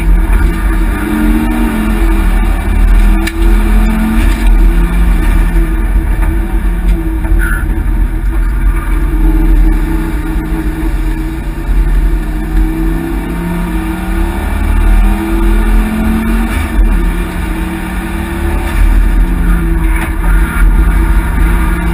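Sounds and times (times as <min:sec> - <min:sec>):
race car engine revving: 0:00.0 - 0:21.9
road and wind noise: 0:00.0 - 0:21.9.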